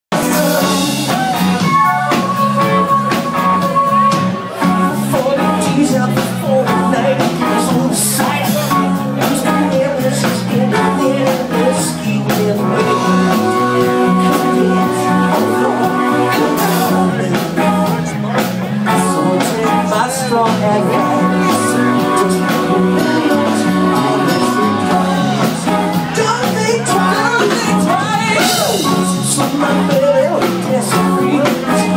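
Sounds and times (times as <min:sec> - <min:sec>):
lead singer: 0:00.1 - 0:31.9
live band playing: 0:00.1 - 0:31.9.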